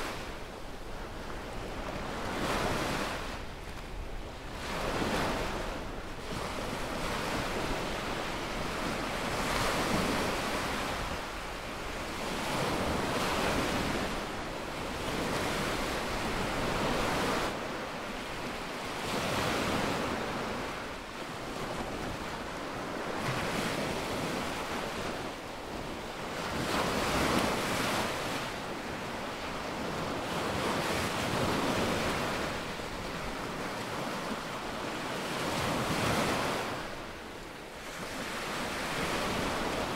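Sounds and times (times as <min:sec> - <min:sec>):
small waves breaking on sand: 0:00.0 - 0:39.9.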